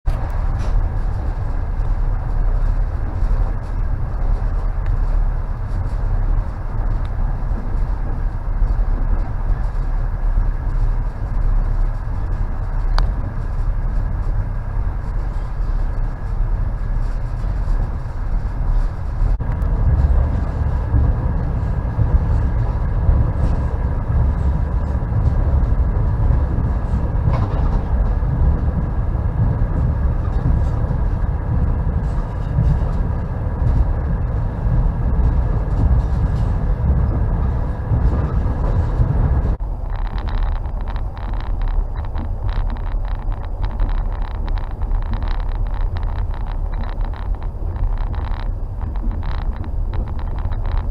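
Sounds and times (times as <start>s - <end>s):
train carriage rumbling on rails: 0.0s - 50.9s.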